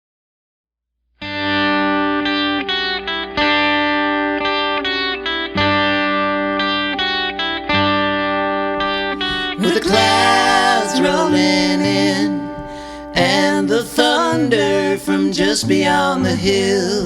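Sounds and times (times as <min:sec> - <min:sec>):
guitar playing sustained chords: 0:01.2 - 0:17.0.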